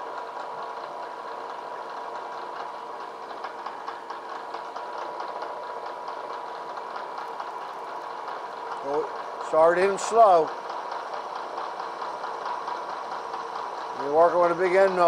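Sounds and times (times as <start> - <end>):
milling machine motor hum: 0.0 - 15.0.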